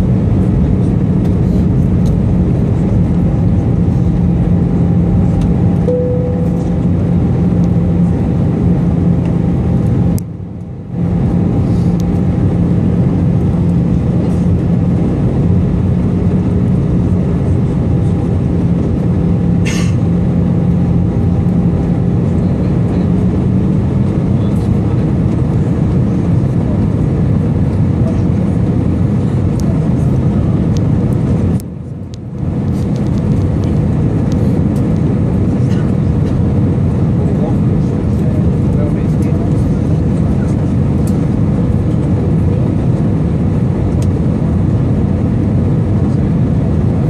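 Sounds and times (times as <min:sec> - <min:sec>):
jet engine and airflow rumble: 0:00.0 - 0:47.0.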